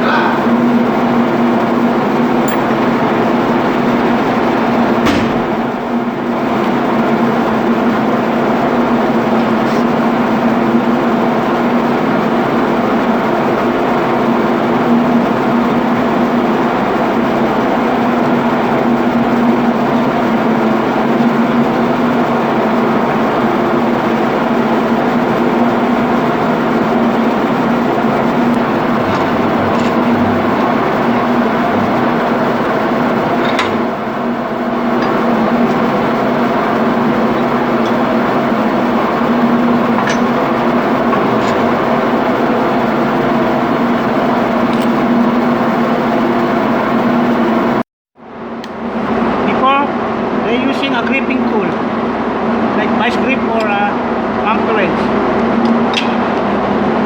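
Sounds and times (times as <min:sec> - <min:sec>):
engine-room machinery drone: 0:00.0 - 0:57.0.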